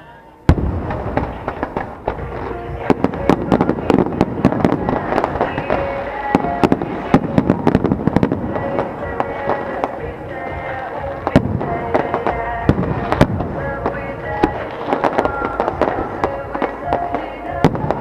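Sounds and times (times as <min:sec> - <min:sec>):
background music: 0:00.0 - 0:18.0
fireworks banging and crackling: 0:00.5 - 0:18.0.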